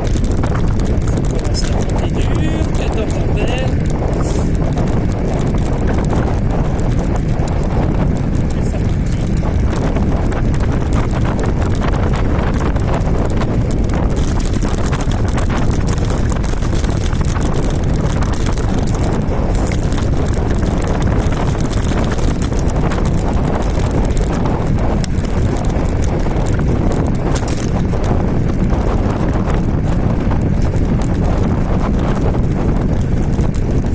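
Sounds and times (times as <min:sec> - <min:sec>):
scooter clicks and rattles: 0:00.0 - 0:33.9
wind rumble on microphone: 0:00.0 - 0:33.9.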